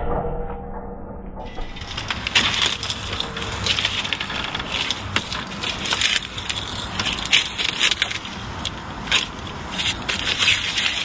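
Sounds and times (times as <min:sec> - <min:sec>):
crunching and scraping of brick: 0:01.5 - 0:11.0.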